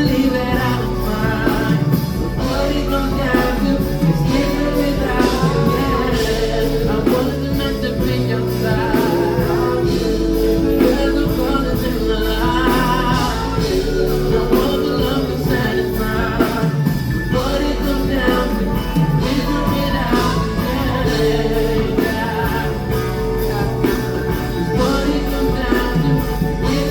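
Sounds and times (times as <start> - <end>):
live band playing soul ballad: 0.0 - 26.9
person singing: 0.0 - 26.9.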